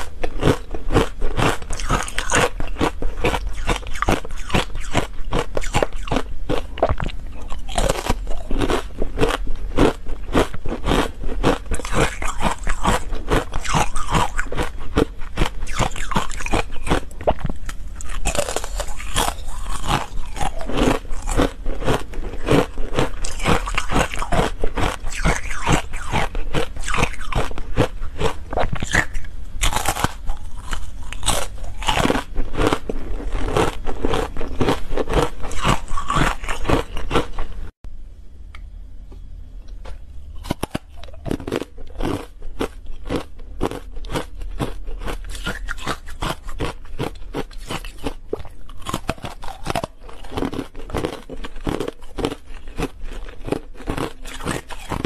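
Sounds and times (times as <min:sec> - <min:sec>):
ice being bitten and chewed: 0:00.0 - 0:37.6, 0:40.4 - 0:55.0
loud crunching and crackling: 0:00.0 - 0:37.6, 0:40.4 - 0:55.0.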